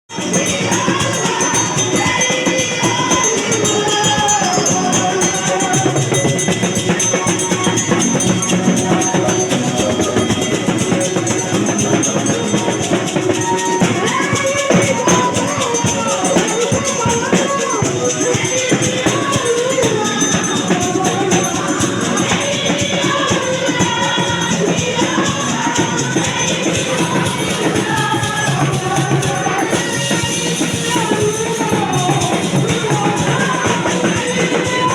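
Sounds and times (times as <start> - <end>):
group singing praise music: 0.1 - 34.9
rattling hand percussion: 0.1 - 34.9.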